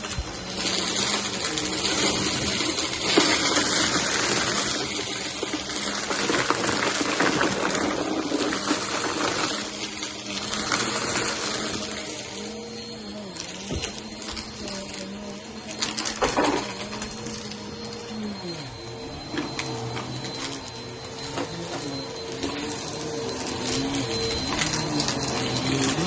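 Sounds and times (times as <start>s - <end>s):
debris crackling in vacuum: 0.0s - 26.0s
vacuum cleaner running: 0.0s - 26.0s.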